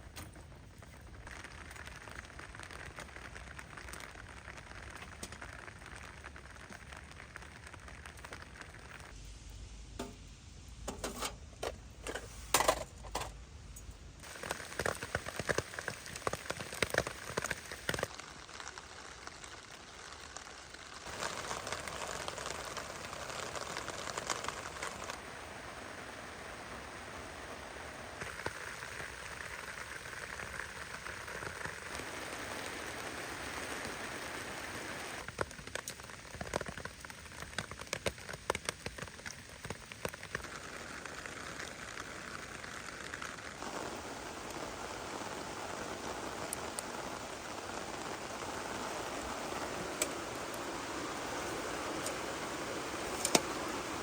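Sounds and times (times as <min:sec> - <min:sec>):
raindrops striking close by: 0:00.0 - 0:54.0
heavy rain hissing: 0:01.2 - 0:12.6, 0:13.4 - 0:54.0.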